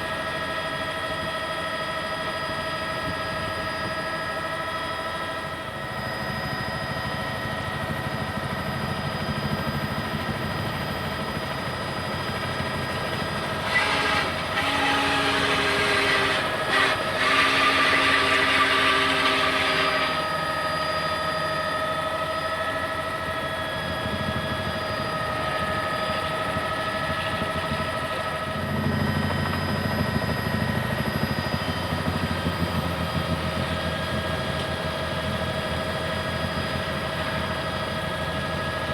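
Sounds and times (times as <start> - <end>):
helicopter turbine and rotor: 0.0 - 38.9.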